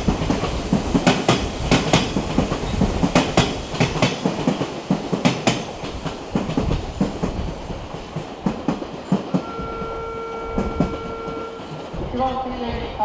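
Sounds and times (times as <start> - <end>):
electric train running: 0.0 - 12.6.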